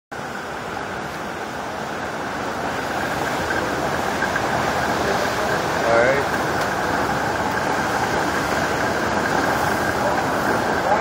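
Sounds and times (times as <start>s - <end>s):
heavy rain: 0.1s - 11.0s
strong wind: 0.1s - 11.0s.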